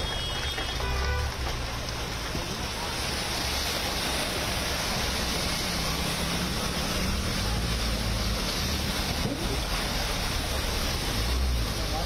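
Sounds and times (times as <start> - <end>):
water splashing from wheels: 0.0 - 12.0
car engine rumble: 1.4 - 12.0.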